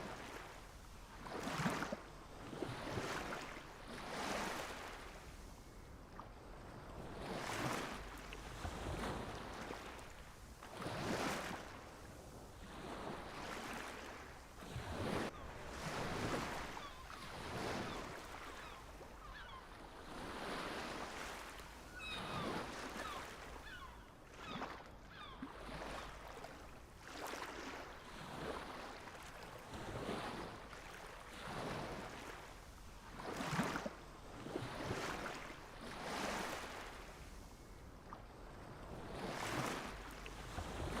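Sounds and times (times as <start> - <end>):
small waves breaking: 0.0 - 41.0.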